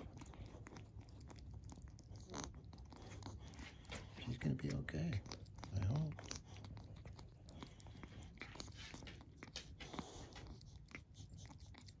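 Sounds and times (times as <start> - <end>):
kitten chewing and crunching: 0.0 - 12.0.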